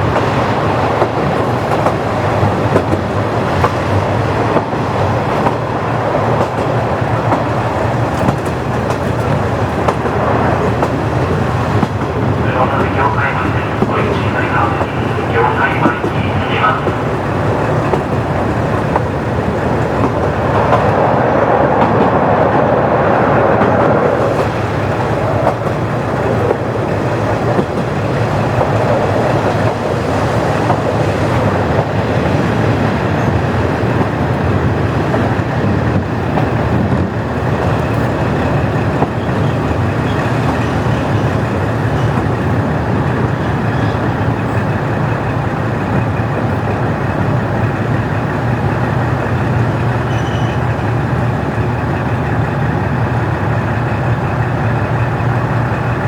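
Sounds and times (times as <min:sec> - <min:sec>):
diesel railcar engine drone: 0:00.0 - 0:56.0
wheels on rails: 0:00.0 - 0:56.0.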